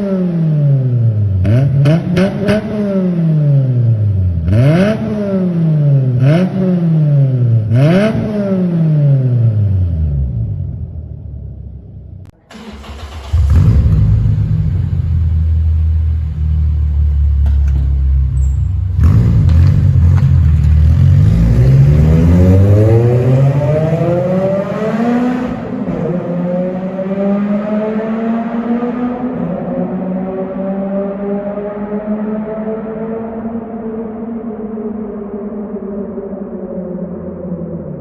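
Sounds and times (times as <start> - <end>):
car engine revving: 0.0 - 10.8, 12.4 - 33.5.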